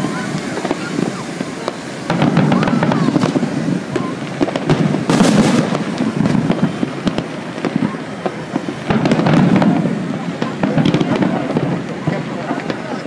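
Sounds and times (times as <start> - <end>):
firework hissing burst: 0.0 - 13.0
fireworks popping and crackling: 0.0 - 13.0.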